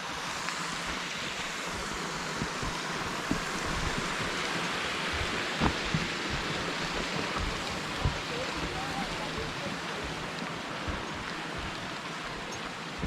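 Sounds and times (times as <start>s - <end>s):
creek flowing over rocks: 0.0s - 13.0s
soft low thumps: 0.8s - 13.0s.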